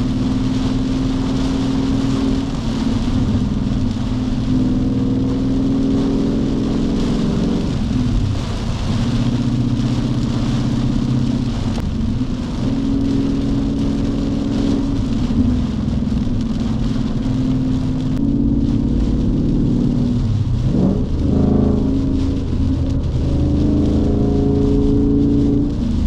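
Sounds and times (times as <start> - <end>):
engine droning: 0.0 - 26.0
heavy rain and road spray: 0.0 - 26.0.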